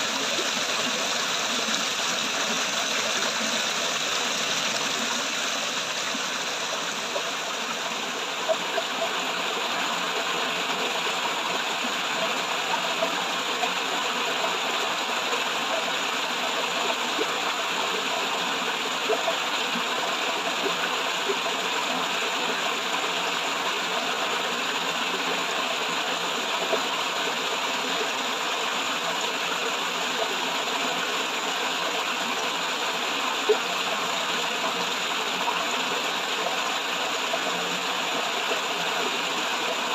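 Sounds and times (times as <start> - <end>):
water splashing in a cascade: 0.0 - 39.9.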